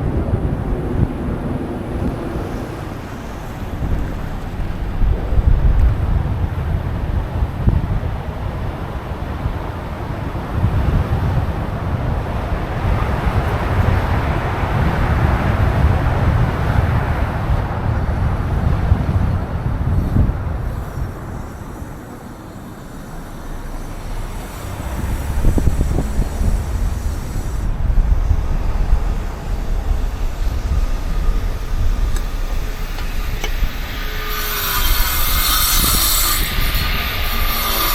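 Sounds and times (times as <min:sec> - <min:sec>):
vehicle passing: 0:00.0 - 0:08.6, 0:09.9 - 0:36.0
street traffic: 0:00.0 - 0:37.9
wind buffeting microphone: 0:00.0 - 0:37.9.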